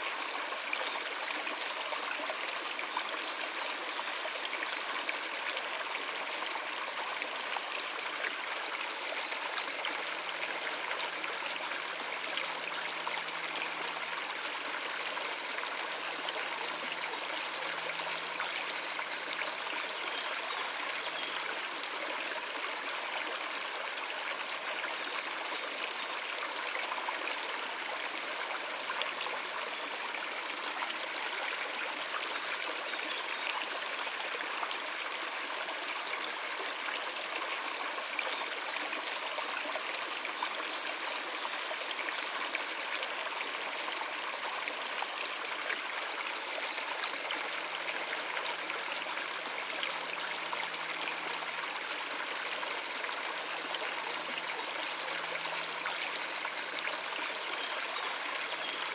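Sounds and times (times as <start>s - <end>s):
stream running over rocks: 0.0s - 58.9s.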